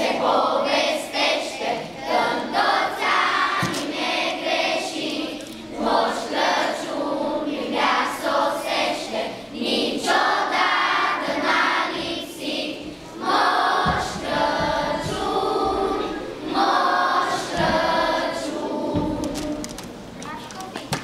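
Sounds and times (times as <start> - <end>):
children's choir singing a carol: 0.0 - 20.1.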